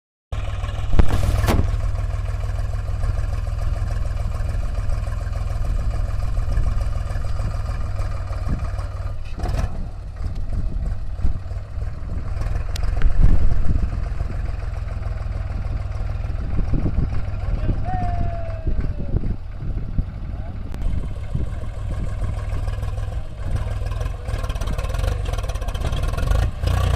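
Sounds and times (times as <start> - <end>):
diesel engine running: 0.3 - 26.9.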